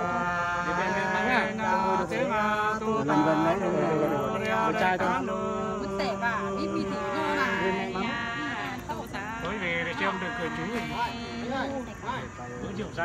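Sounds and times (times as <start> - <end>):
two men singing: 0.0 - 12.0.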